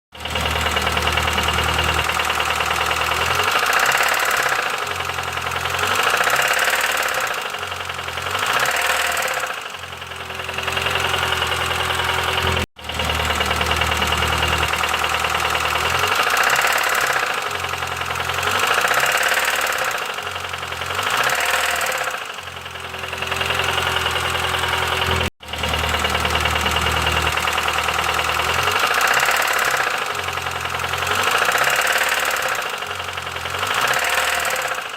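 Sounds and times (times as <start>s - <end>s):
engine knocking: 0.1s - 34.9s
car engine revving: 0.2s - 34.9s.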